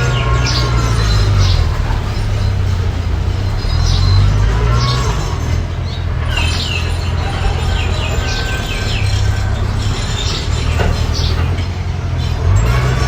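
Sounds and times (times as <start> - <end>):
bulldozer engine running: 0.0 - 13.0
high squeals gliding downward: 0.0 - 13.0.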